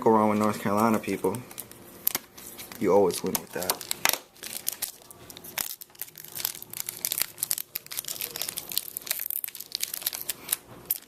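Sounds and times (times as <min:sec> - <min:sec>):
plastic wrapper crinkling and tearing: 0:00.4 - 0:11.0.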